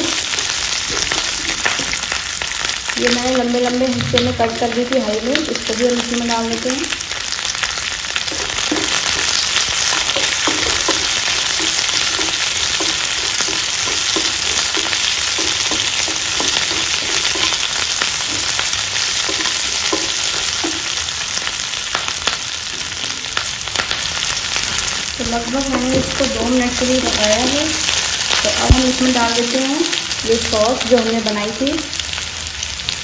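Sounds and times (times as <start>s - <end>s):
vegetables sizzling in hot oil: 0.0s - 33.0s.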